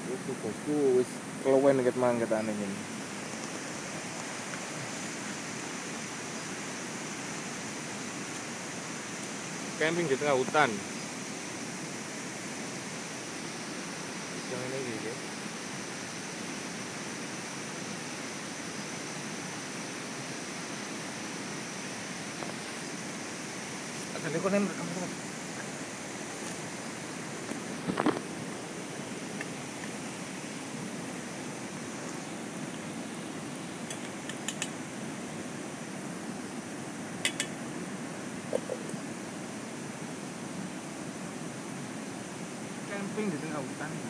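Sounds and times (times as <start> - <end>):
forest night rushing noise: 0.0 - 44.0.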